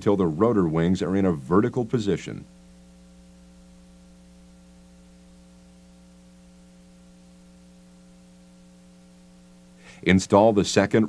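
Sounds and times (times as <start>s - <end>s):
electrical hum: 0.0s - 11.0s
faint hiss: 0.0s - 11.0s.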